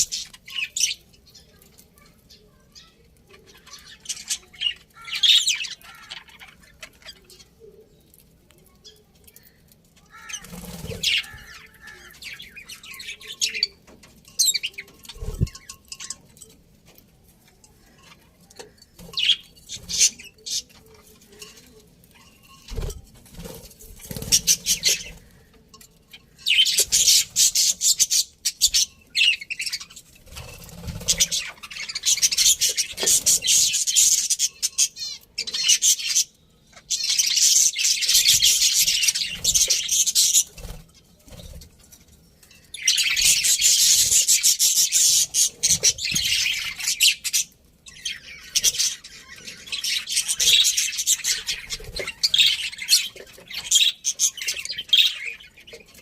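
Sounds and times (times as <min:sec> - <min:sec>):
budgerigars chirping and chattering: 0:00.0 - 0:08.2, 0:08.8 - 0:16.4, 0:17.8 - 0:41.8, 0:42.6 - 0:56.0.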